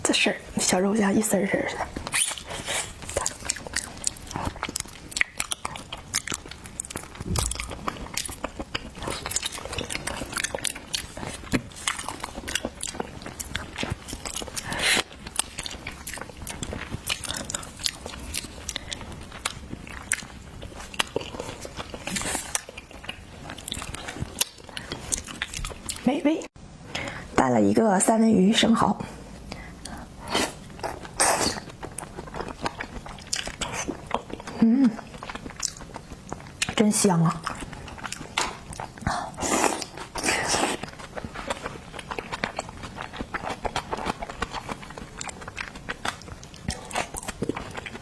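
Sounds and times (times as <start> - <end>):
wet chewing and biting: 1.8 - 26.1, 29.8 - 36.8, 37.4 - 48.0.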